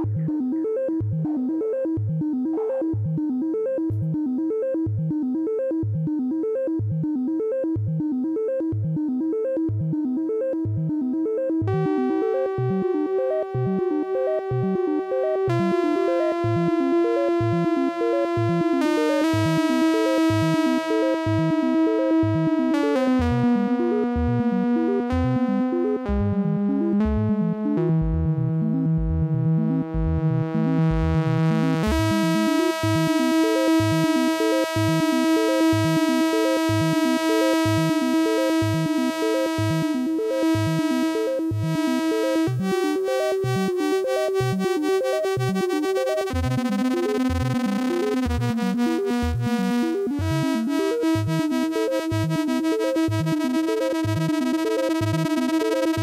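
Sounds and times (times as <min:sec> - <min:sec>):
synthesizer pulse pattern: 0:00.0 - 0:56.0.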